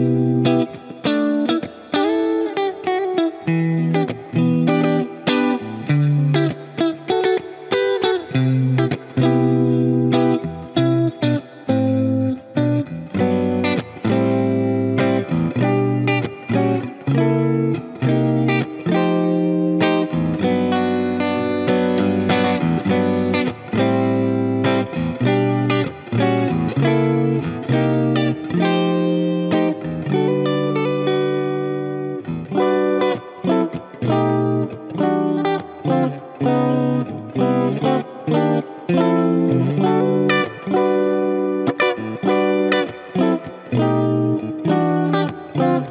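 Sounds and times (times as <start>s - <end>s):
choppy electric guitar chords: 0.0s - 45.9s.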